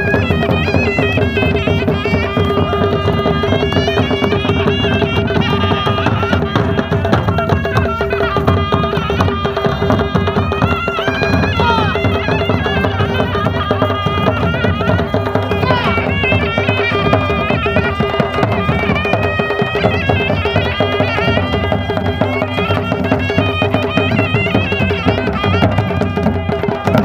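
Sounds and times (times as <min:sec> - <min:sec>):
barrel drums beating: 0:00.0 - 0:27.0
wind instrument melody: 0:00.0 - 0:27.0.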